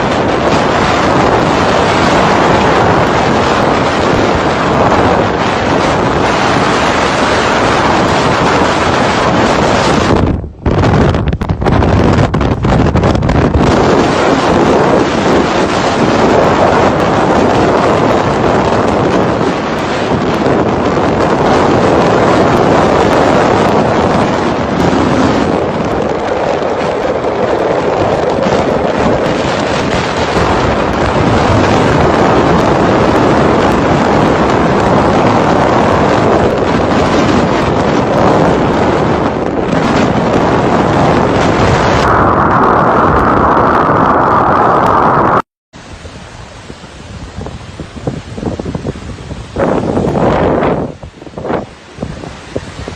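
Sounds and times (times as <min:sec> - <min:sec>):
strong wind on microphone: 0:00.0 - 0:52.9.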